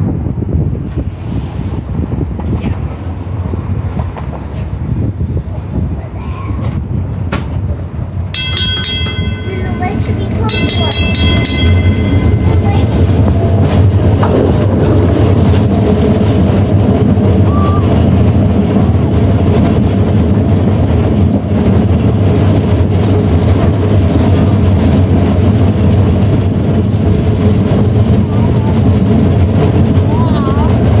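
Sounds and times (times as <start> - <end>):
streetcar running on track: 0.0 - 31.0.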